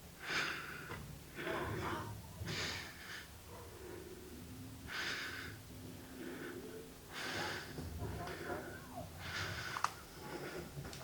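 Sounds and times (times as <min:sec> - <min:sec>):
faint steady hum: 0:00.0 - 0:11.0
person breathing noisily: 0:00.2 - 0:11.0.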